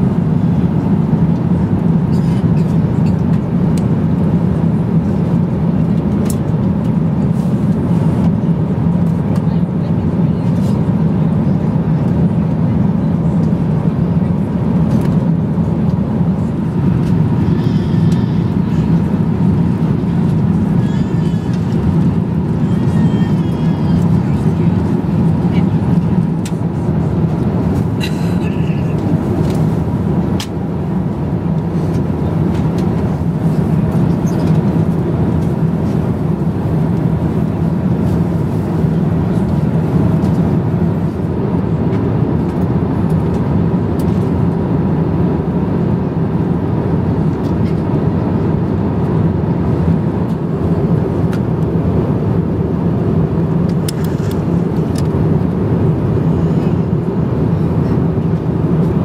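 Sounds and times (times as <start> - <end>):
airflow along fuselage: 0.0 - 59.0
jet engines rumbling: 0.0 - 59.0.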